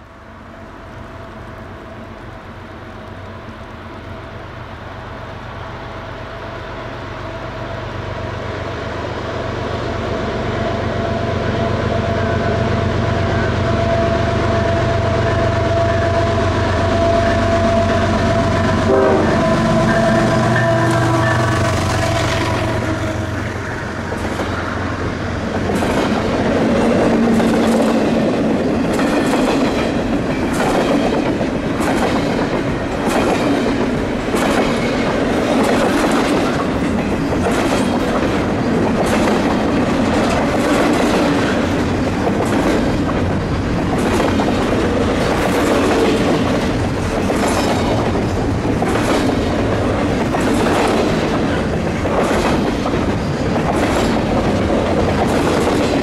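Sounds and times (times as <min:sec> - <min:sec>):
freight train rolling past: 0:00.0 - 0:56.0
wheels clacking on rails: 0:11.0 - 0:56.0.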